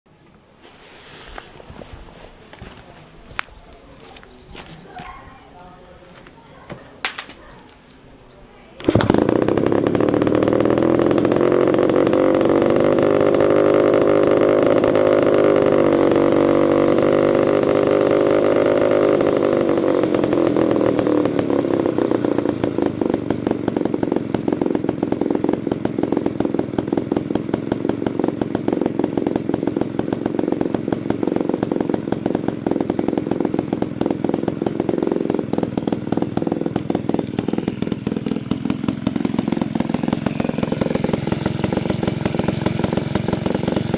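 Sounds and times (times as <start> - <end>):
chainsaw engine running: 8.7 - 43.9.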